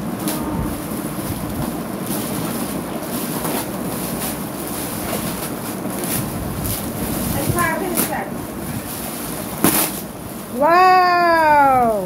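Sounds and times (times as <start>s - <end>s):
plastic gift bag crinkling: 0.0s - 11.9s.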